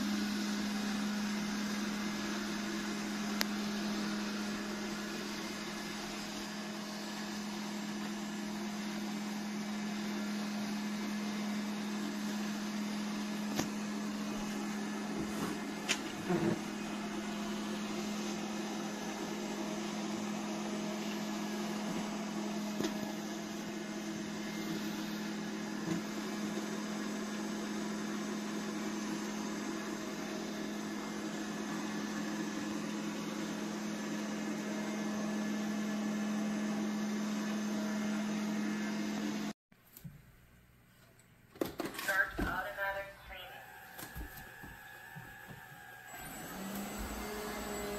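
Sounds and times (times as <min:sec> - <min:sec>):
robot vacuum motor humming: 0:00.1 - 0:34.2, 0:43.5 - 0:47.9.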